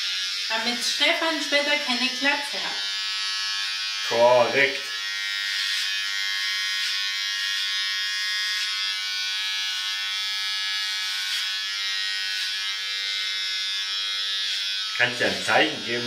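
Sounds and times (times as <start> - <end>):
electric hair clipper buzzing: 0.0 - 16.0.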